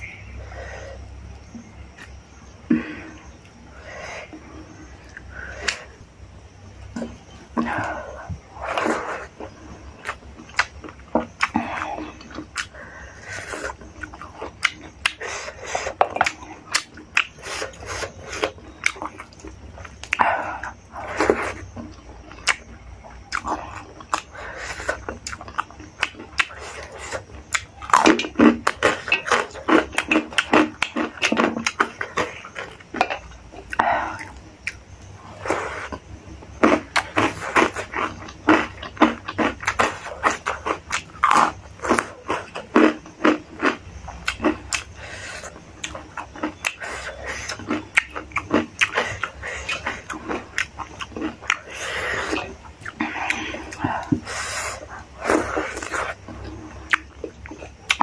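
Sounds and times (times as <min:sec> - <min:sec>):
chewing with wet lip smacks: 0:06.9 - 0:58.0.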